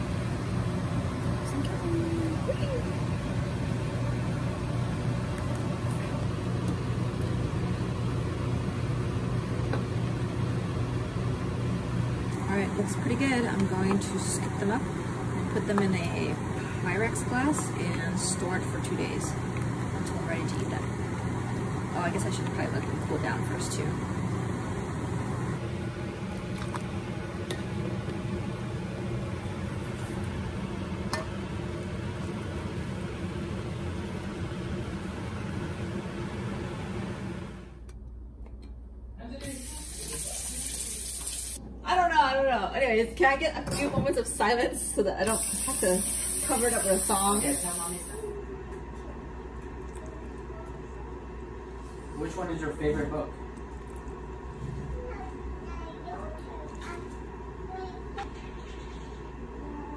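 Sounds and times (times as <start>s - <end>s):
liquid boiling in saucepan: 0.0s - 37.8s, 45.3s - 59.7s
low fan hum: 0.0s - 59.9s.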